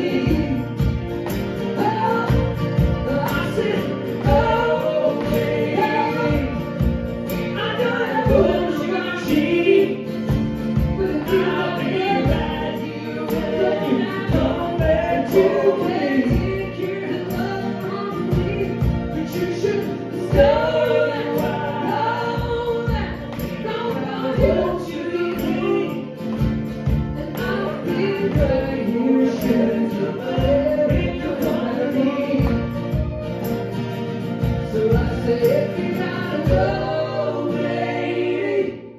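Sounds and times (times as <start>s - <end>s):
drum kit beat: 0.0s - 37.1s
folk-rock band playing: 0.0s - 38.9s
voices singing together: 0.0s - 38.9s.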